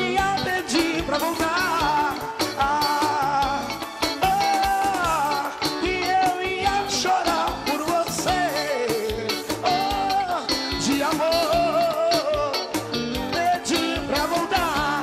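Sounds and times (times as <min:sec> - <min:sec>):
amplified backing music: 0:00.0 - 0:15.0
man singing into microphone: 0:00.0 - 0:15.0.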